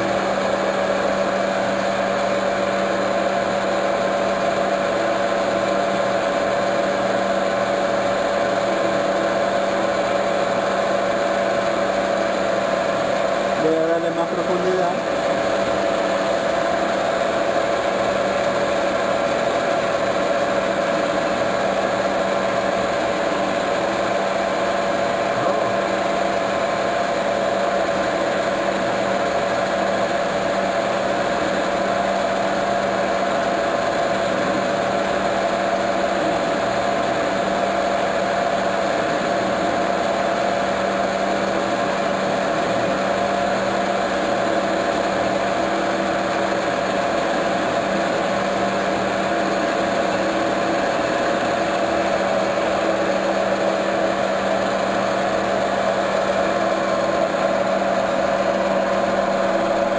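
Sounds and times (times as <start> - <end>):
metal lathe humming and whining: 0.0 - 59.9.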